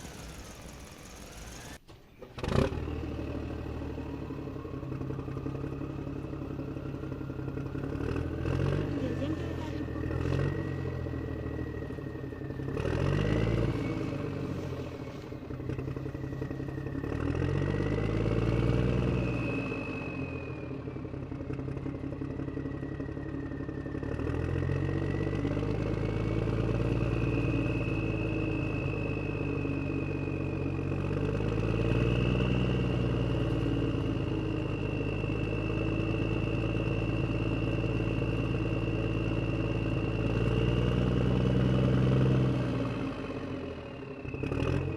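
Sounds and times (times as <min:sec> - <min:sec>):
engine revving: 0:00.0 - 0:44.9.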